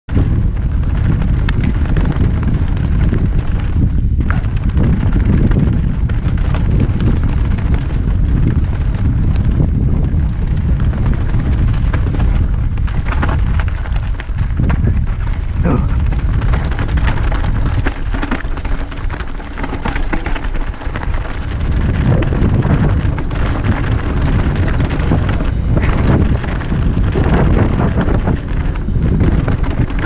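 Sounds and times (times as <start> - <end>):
tyres rolling on gravel: 0.1 - 30.0
wind buffeting microphone: 0.1 - 30.0.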